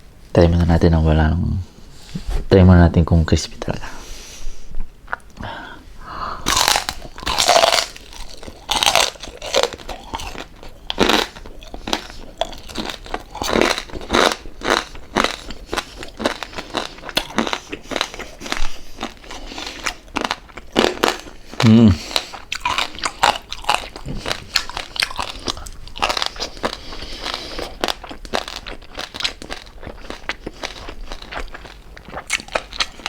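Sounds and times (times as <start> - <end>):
crunchy chewing: 6.4 - 33.0.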